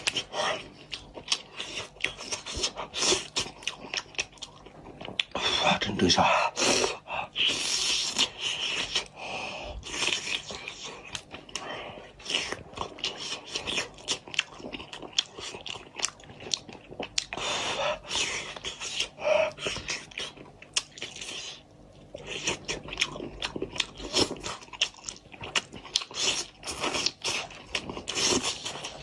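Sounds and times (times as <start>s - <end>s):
person chewing and crunching: 0.0s - 29.0s.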